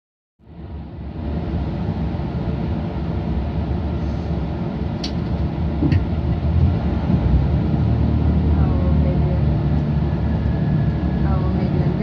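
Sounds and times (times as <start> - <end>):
train engine and running rumble: 0.4 - 12.0.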